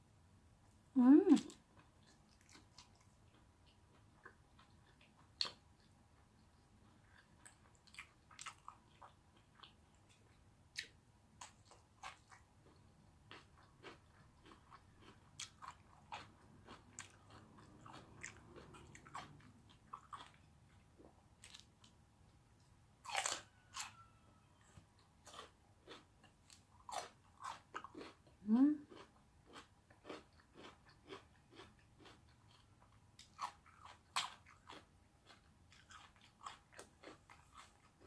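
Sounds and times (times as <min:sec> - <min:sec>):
person chewing food: 0:01.3 - 0:38.0.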